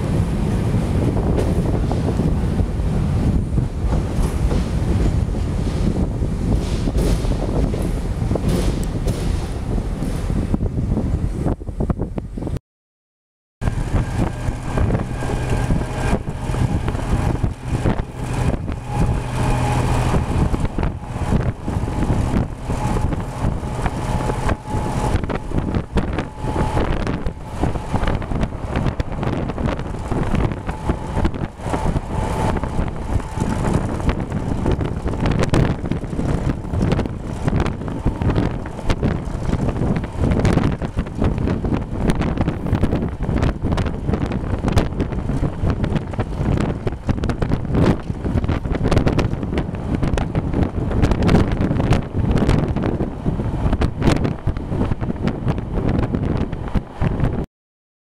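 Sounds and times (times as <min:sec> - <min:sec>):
train rumbling: 0:00.0 - 0:12.6, 0:13.6 - 0:57.4
wind buffeting microphone: 0:00.0 - 0:12.6, 0:13.6 - 0:57.5.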